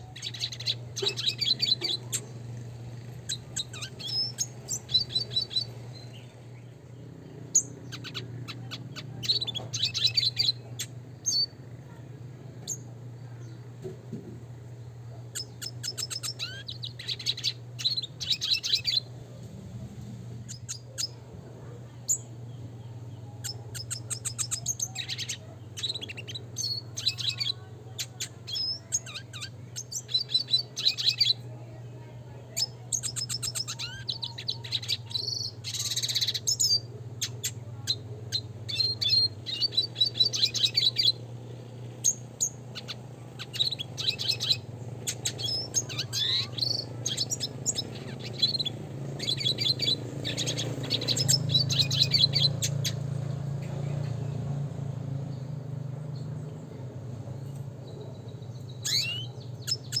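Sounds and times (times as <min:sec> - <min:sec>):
bird twittering and trilling: 0:00.0 - 0:14.0, 0:14.7 - 0:19.4, 0:20.0 - 1:00.0
steady low hum: 0:00.0 - 1:00.0.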